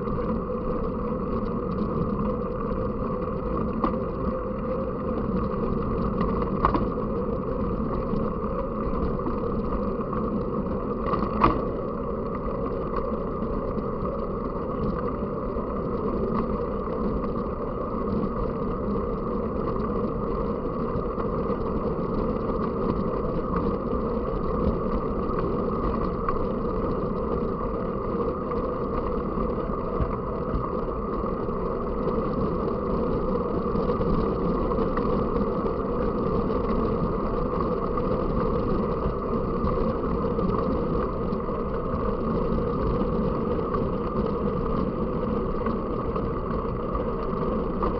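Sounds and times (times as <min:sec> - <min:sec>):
mountain bike riding rumble: 0:00.0 - 0:47.9
wind on camera: 0:00.0 - 0:47.9.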